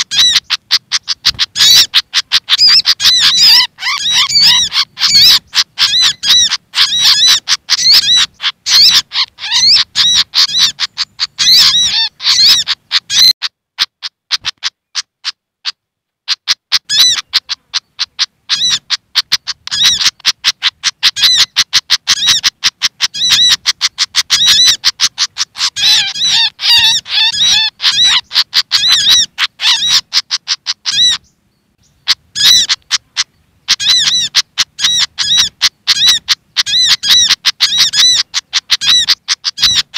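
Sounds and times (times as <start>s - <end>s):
harsh chattering bird calls: 0.0s - 15.4s, 16.3s - 39.9s.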